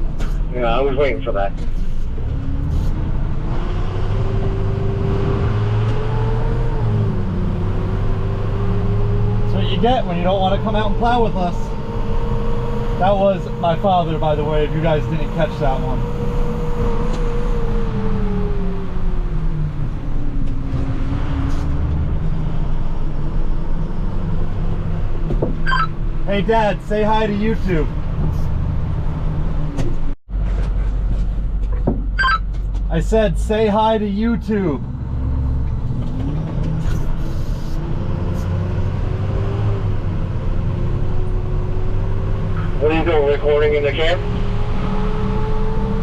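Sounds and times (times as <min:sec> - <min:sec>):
truck engine rumble: 0:00.0 - 0:46.0.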